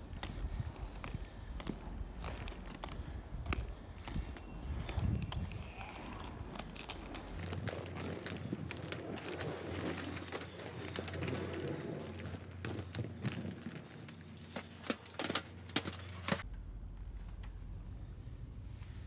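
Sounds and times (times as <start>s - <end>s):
footsteps on pavement: 0.0s - 16.5s
handling noise crackling and clicking: 0.0s - 17.8s
steady low hum: 0.0s - 19.0s.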